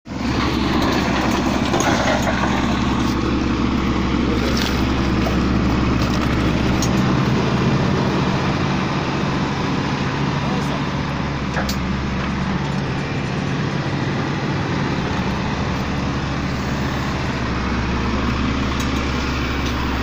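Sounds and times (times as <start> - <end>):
excavator diesel engine running: 0.1 - 20.0.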